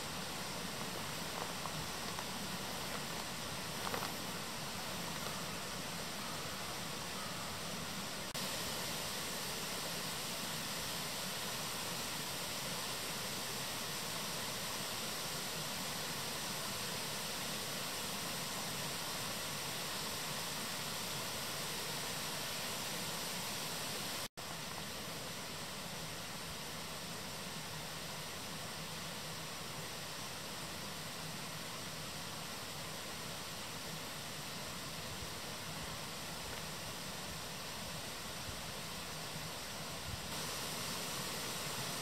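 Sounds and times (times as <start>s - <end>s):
forest stream rushing: 0.0s - 42.0s.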